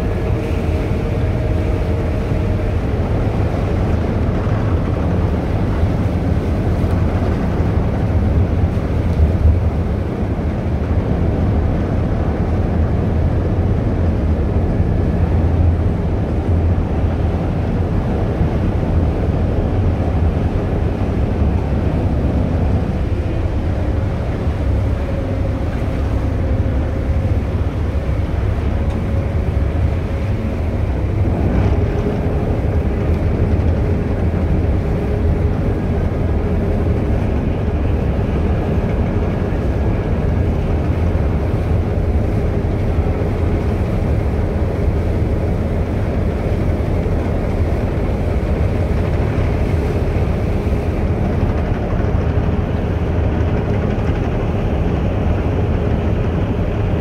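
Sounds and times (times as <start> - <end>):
ferry engine rumbling: 0.0 - 57.0.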